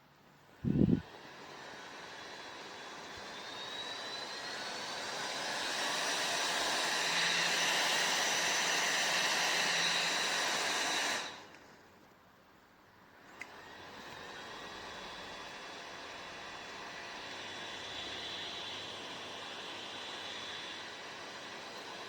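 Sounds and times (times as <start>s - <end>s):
small fan motor whining: 0.0s - 12.2s, 13.0s - 22.0s.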